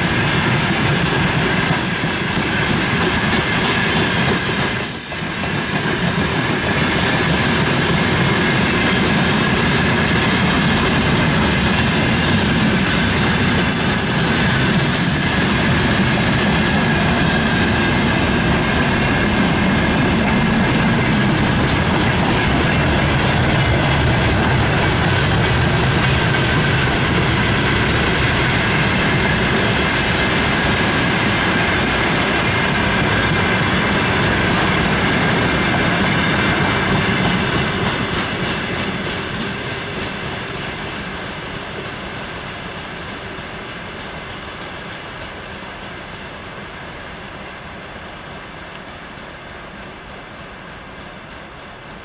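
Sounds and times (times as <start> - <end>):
train wheels clattering over rail joints: 0.0 - 52.0.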